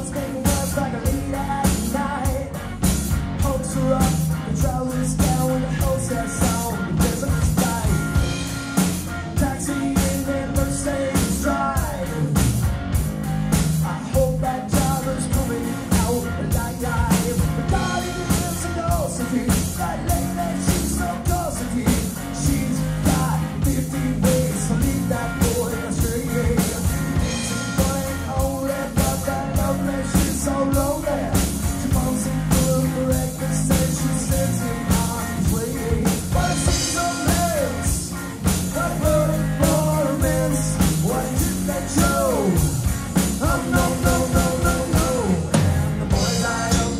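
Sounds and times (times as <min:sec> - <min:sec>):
man singing: 0:00.0 - 0:12.6, 0:13.8 - 0:46.9
bass guitar: 0:00.0 - 0:46.9
drum kit: 0:00.0 - 0:46.9
electric guitar: 0:00.0 - 0:46.9.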